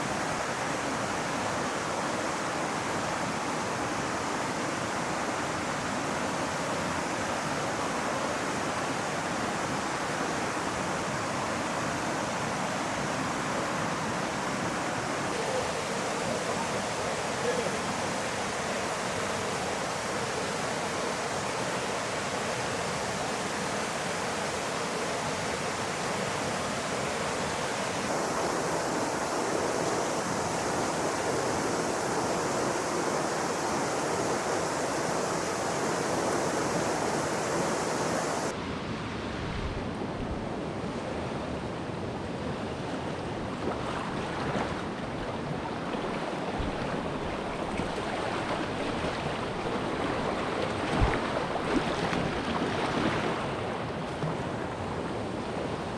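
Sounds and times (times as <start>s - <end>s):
rushing river water: 0.0s - 55.9s.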